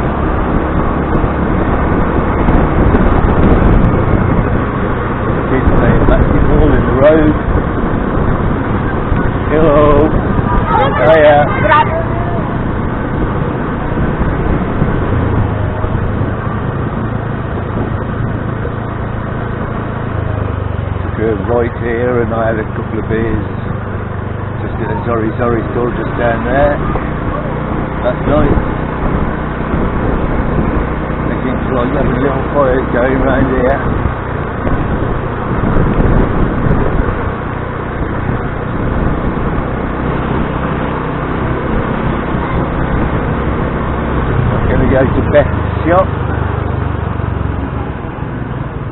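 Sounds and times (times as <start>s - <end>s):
motor scooter engine running: 0.0s - 48.9s
road and wind noise: 0.0s - 48.9s.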